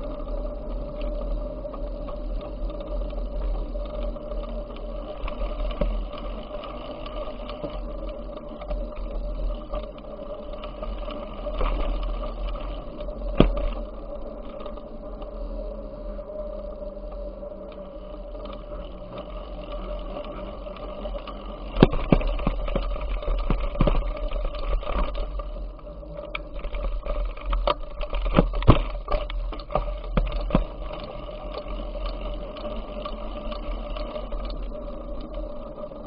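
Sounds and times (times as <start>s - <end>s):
bicycle rumble: 0.0s - 36.0s.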